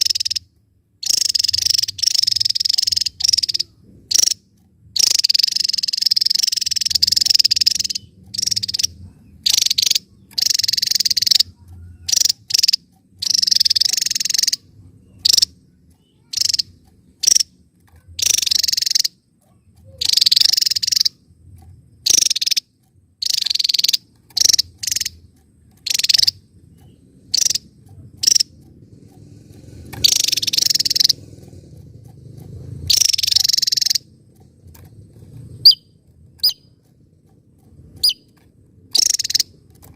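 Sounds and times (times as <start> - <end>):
bird buzzy trilling song: 0.0 - 39.9.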